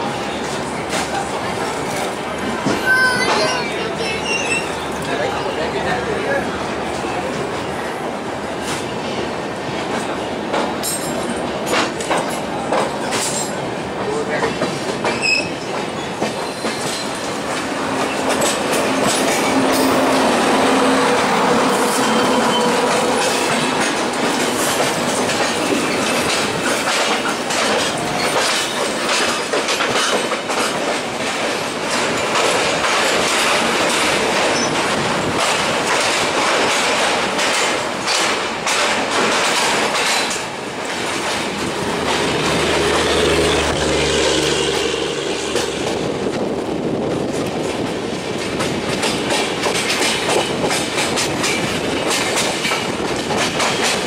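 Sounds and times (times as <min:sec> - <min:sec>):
train wheels clacking over rail joints: 0:00.0 - 0:03.7, 0:06.2 - 0:54.0.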